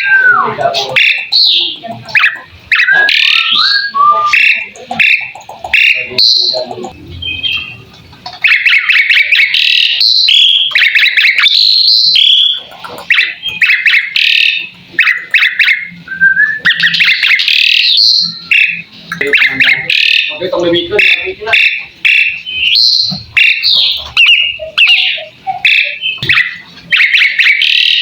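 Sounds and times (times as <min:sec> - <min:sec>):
starling singing: 0:00.0 - 0:28.0.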